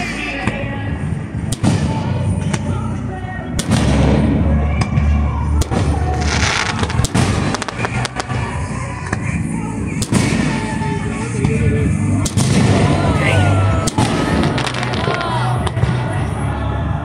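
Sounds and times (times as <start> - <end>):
low rumble: 0.0 - 17.0
fireworks bangs and crackles: 1.3 - 2.8, 3.6 - 16.9.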